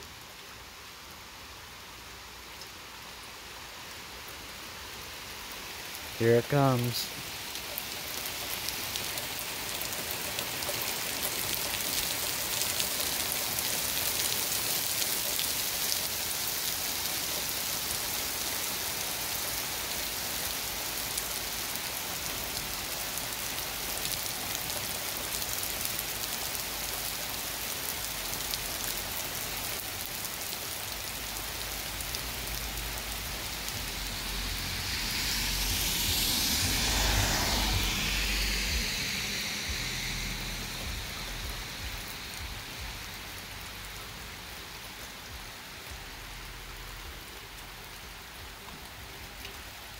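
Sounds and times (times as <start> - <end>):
heavy rain on pavement: 0.0 - 49.9
car passing on wet road: 0.2 - 49.9.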